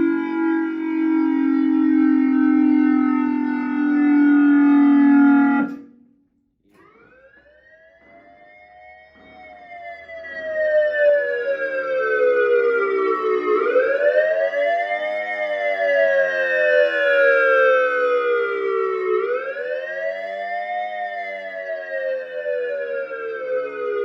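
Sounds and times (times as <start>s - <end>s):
electronic siren steady tone: 0.0s - 24.0s
siren wail rising and falling: 0.0s - 24.0s.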